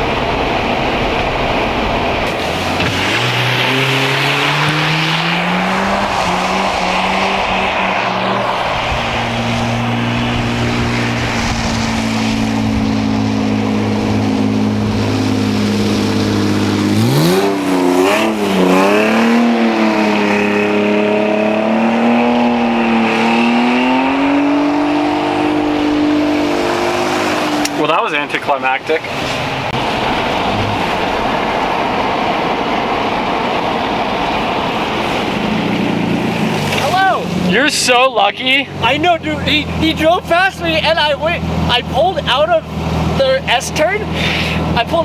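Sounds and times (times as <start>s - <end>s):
kart engine revving: 2.0s - 45.0s.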